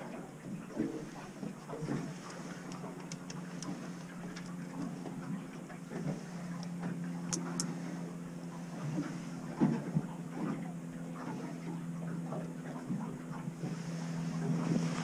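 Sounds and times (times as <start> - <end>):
steady low hum: 0.0 - 15.0
water slapping boat hull: 0.0 - 15.0.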